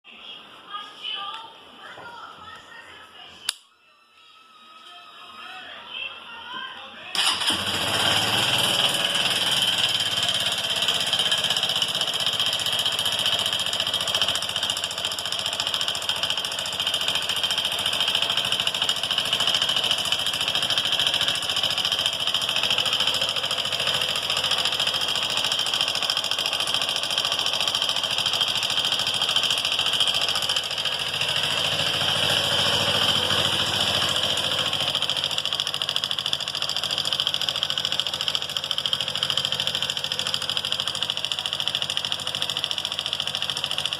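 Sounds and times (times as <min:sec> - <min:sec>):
motorcycle engine idling: 0:07.2 - 0:43.9.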